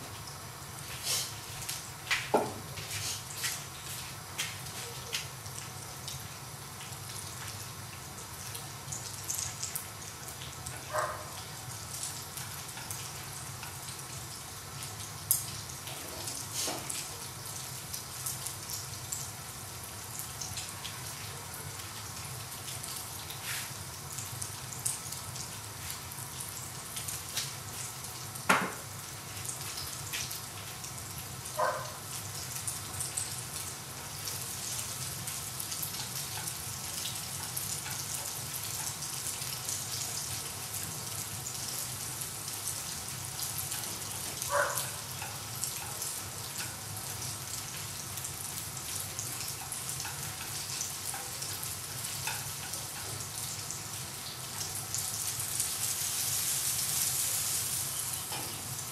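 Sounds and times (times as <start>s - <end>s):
food sizzling in a pan: 0.0s - 58.9s.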